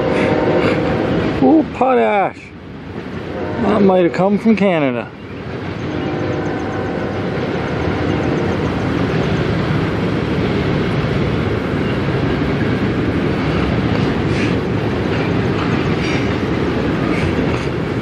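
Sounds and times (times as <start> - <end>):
steel wheels rumbling on rail: 0.0 - 18.0.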